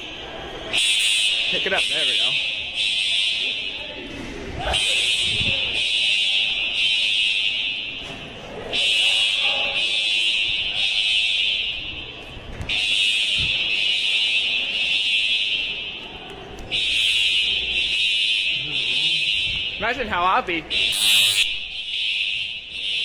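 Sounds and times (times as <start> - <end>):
fire alarm horns sounding: 0.0 - 23.0.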